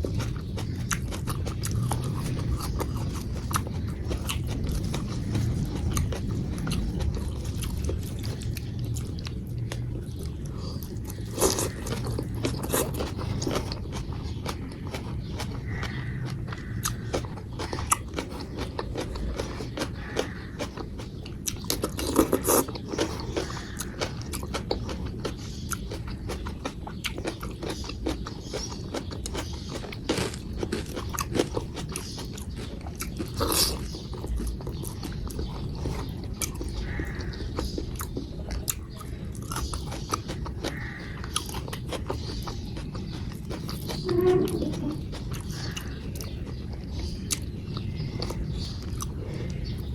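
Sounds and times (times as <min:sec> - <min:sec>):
chewing with wet mouth sounds: 0:00.0 - 0:49.9
crunchy bites: 0:00.0 - 0:49.9.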